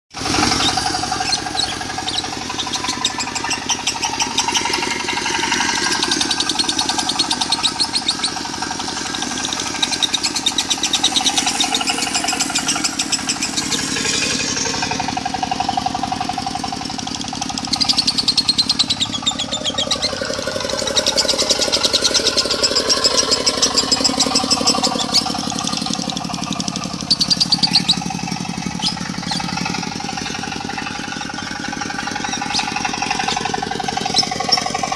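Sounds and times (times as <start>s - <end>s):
diesel engine running: 0.1s - 34.9s
lovebird chattering song: 0.3s - 34.9s.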